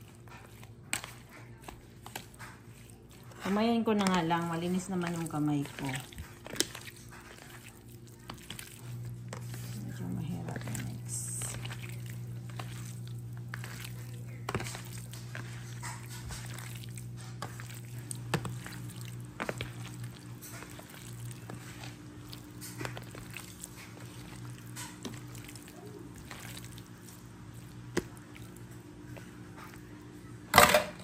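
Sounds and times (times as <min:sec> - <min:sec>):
hand squishing raw meat: 0:00.0 - 0:30.4
steady low hum: 0:00.0 - 0:31.0.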